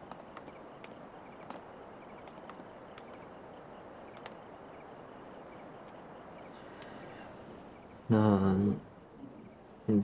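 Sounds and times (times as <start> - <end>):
crickets chirping: 0.0 - 10.0
faint background hiss: 0.0 - 10.0.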